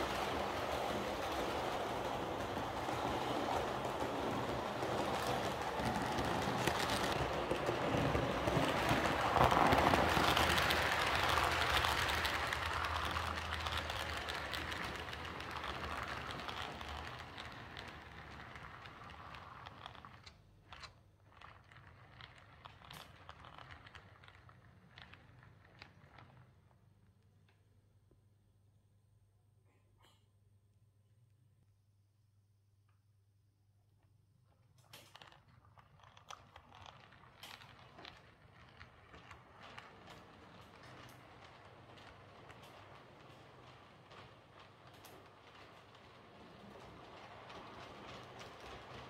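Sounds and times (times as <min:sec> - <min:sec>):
model train wheels rattling on rails: 0:00.0 - 0:26.6, 0:34.8 - 0:49.0.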